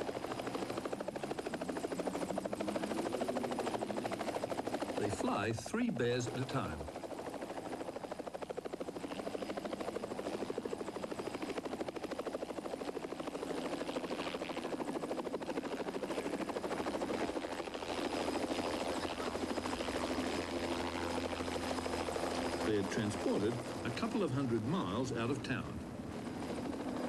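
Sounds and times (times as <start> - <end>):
helicopter rotor chopping: 0.0 - 27.0.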